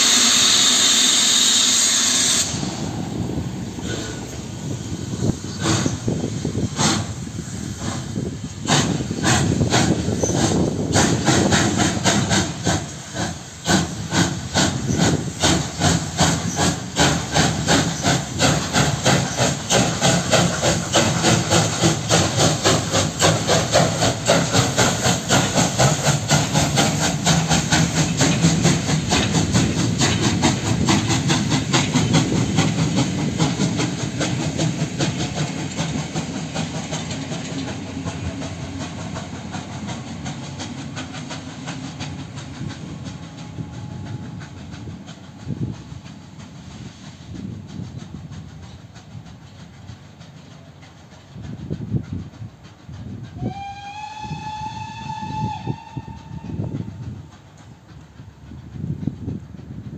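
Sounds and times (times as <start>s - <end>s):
steam hissing: 0.0s - 59.9s
steam locomotive exhaust chuffs: 0.0s - 59.9s.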